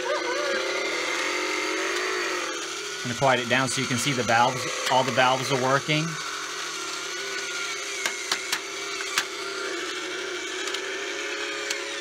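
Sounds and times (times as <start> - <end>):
electric motor mechanical whir: 0.0 - 12.0.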